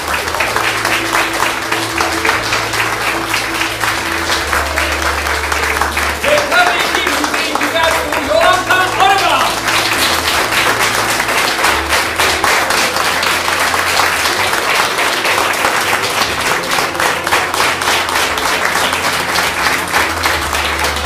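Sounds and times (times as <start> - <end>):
crowd applauding: 0.0 - 21.0.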